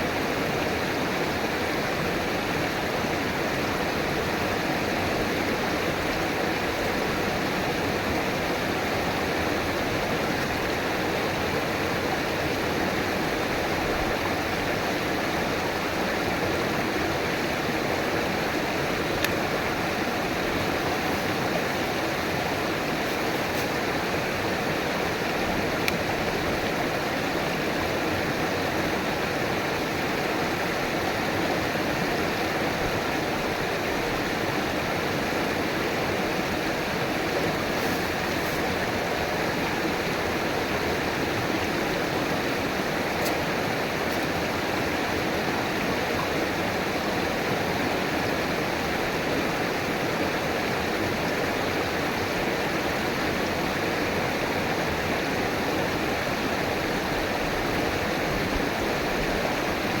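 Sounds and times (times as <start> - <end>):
river water rushing over rocks: 0.0 - 60.0.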